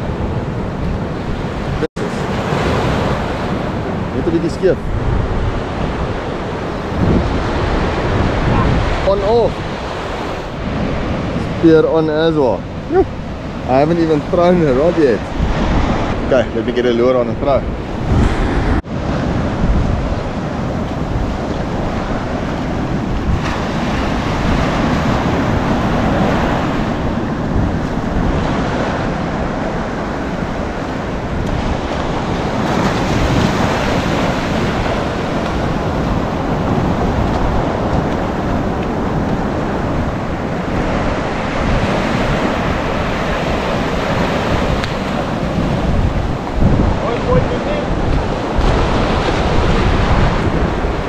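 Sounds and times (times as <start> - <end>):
ocean surf breaking on shore: 0.0 - 51.0
wind buffeting microphone: 0.0 - 51.0.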